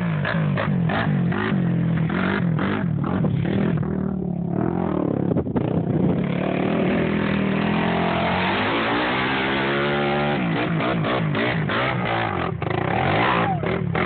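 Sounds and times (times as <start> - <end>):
quad engine revving: 0.0 - 14.0.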